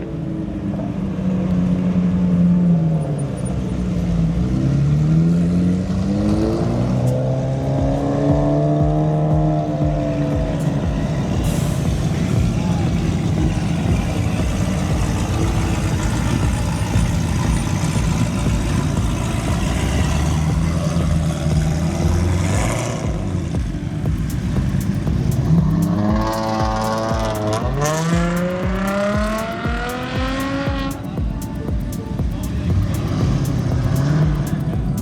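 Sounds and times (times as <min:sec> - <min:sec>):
car accelerating hard: 0:00.0 - 0:31.1, 0:32.2 - 0:35.0
car engines rumbling: 0:00.0 - 0:35.0.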